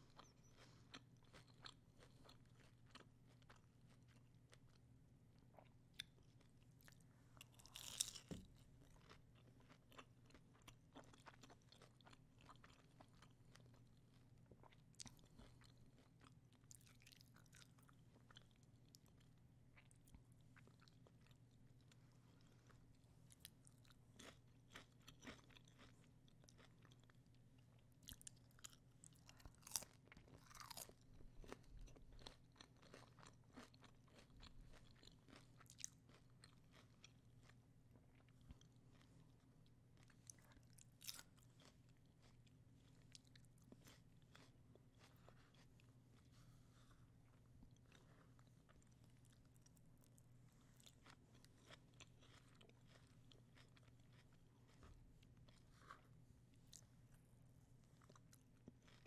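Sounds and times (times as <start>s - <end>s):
crunchy chewing: 0.1s - 4.8s, 5.6s - 39.4s, 40.0s - 56.9s, 57.9s - 59.0s.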